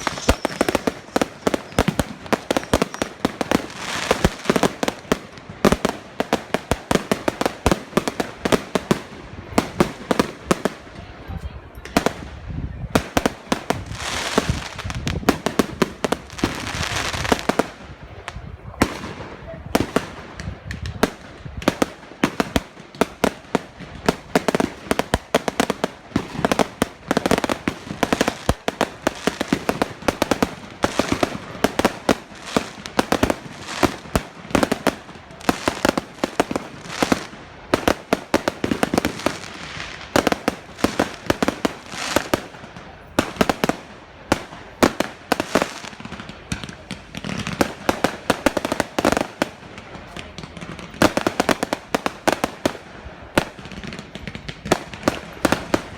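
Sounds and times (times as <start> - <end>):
fireworks bangs and crackling pops: 0.0 - 55.9.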